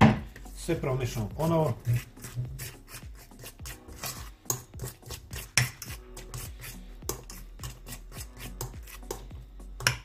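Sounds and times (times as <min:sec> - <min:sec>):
metal spoon scraping steel bowl: 0:01.4 - 0:10.0.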